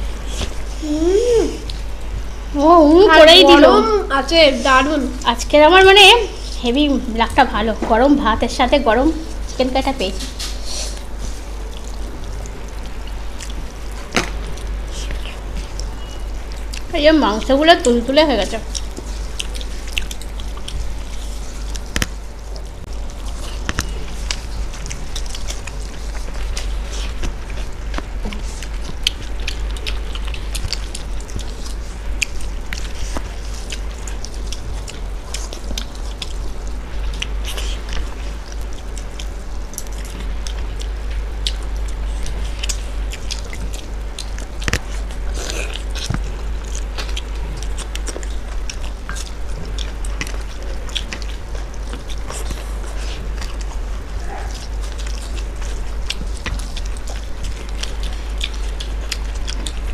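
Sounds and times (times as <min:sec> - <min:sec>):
people chewing: 0:00.0 - 0:59.9.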